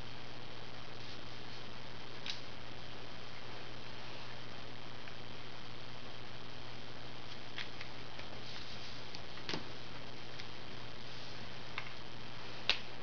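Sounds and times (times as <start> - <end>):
recording hiss and low hum: 0.0 - 13.0.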